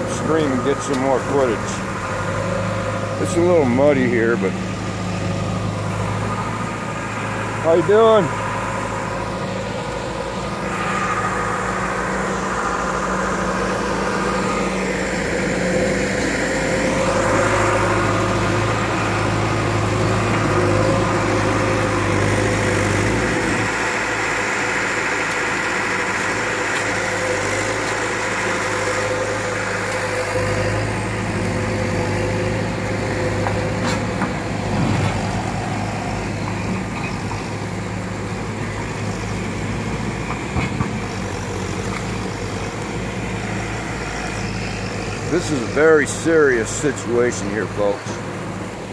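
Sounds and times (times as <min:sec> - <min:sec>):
backhoe diesel engine running: 0:00.0 - 0:48.9.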